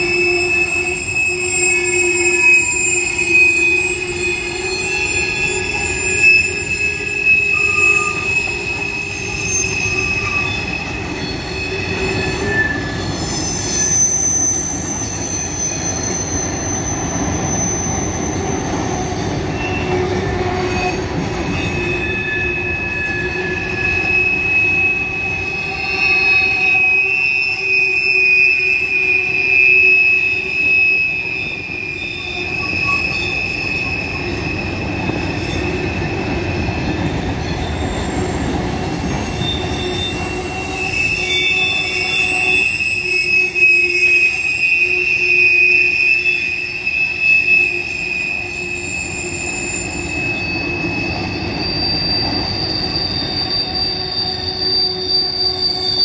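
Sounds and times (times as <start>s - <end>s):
high-pitched wheel squeal: 0.0s - 56.0s
train wheels rumbling on rail: 0.0s - 56.0s.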